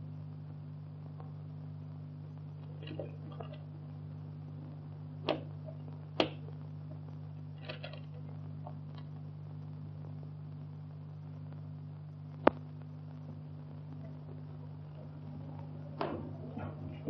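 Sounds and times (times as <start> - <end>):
low soundtrack hum: 0.0 - 17.0.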